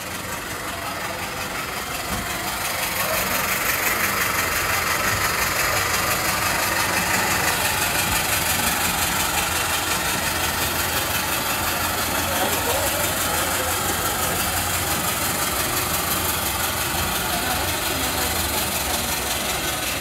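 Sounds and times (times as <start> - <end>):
low mechanical running: 0.0 - 20.0
steam hissing: 0.0 - 20.0.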